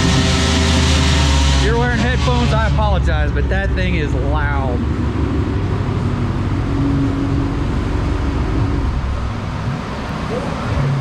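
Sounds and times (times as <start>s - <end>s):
loud car exhaust on dyno: 0.0s - 11.0s.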